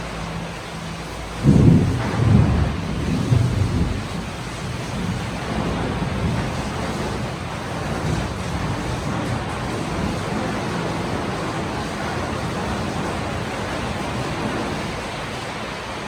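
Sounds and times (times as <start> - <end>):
heavy rain: 0.0 - 16.0
thunder rumble: 0.0 - 16.0.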